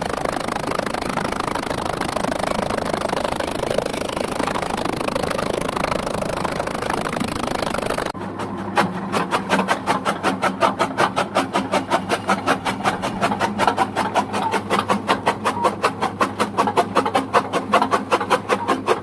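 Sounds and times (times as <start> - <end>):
chaff cutter blades chopping fodder: 0.0 - 19.0
low machine hum: 0.0 - 19.0.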